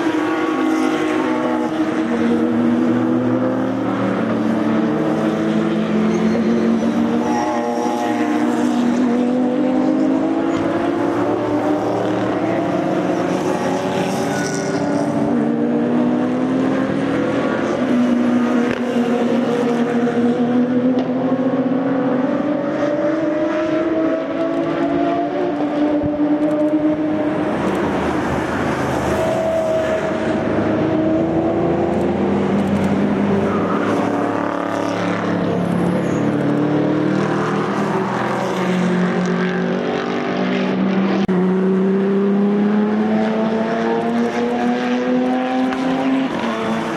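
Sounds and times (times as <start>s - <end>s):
race car engines revving: 0.0s - 46.9s.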